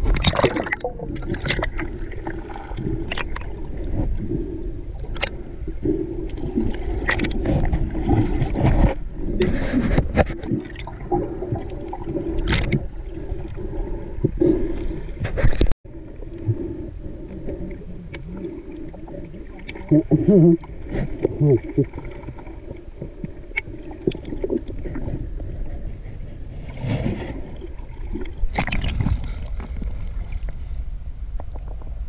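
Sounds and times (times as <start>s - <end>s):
underwater churning water and bubbles: 0.0s - 32.0s.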